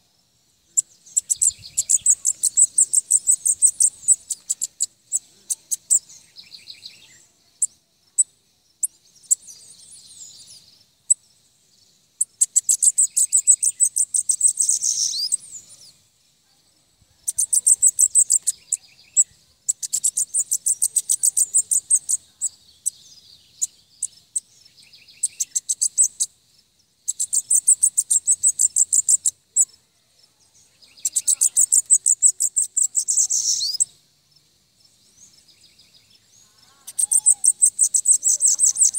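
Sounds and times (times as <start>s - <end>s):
bird singing buzzy trills: 0.6s - 16.1s, 17.2s - 29.8s, 30.6s - 34.0s, 34.8s - 38.9s.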